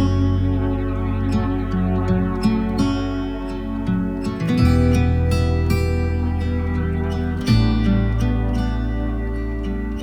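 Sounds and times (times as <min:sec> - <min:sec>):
held low bass: 0:00.0 - 0:10.0
plucked guitar notes: 0:00.0 - 0:10.0.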